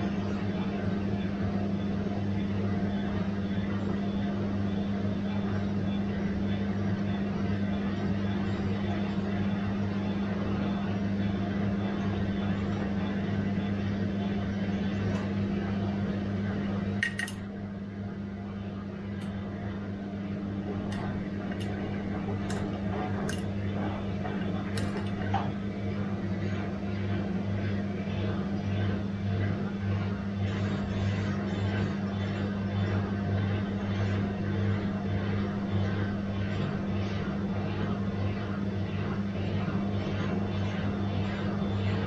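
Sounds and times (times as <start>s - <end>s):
washing machine humming: 0.0s - 42.0s.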